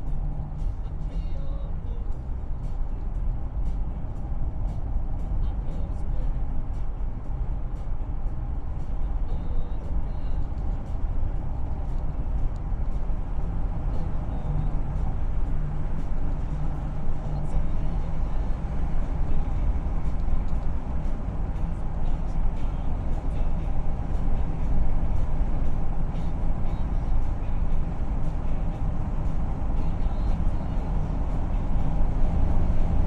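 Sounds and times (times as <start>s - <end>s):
car driving on asphalt: 0.0s - 33.0s.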